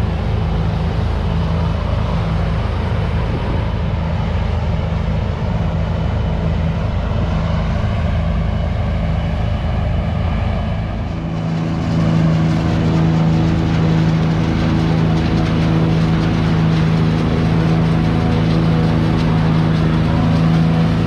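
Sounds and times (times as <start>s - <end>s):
diesel farm machinery engine running: 0.0s - 21.0s.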